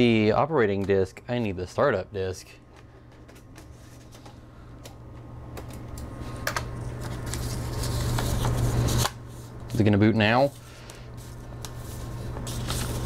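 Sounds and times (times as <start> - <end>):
computer low hum: 0.0 - 13.0.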